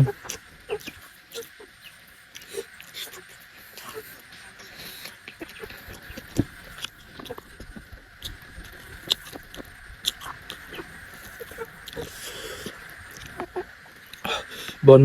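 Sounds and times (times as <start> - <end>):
close chewing with wet mouth clicks: 0.0 - 14.8.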